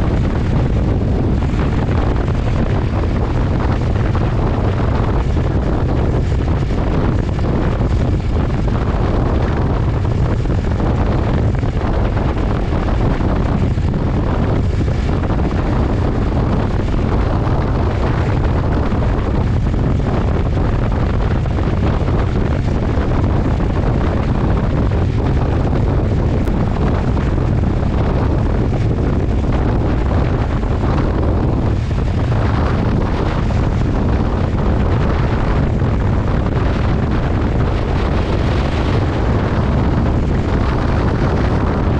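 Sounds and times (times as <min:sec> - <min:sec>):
motorcycle engine at speed: 0:00.0 - 0:41.9
wind rumble on microphone: 0:00.0 - 0:41.9.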